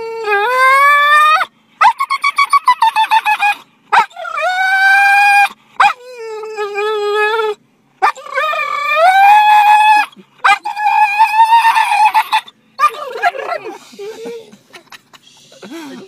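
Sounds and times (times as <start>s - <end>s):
dog howling: 0.0s - 13.8s
dog yipping: 0.2s - 13.8s.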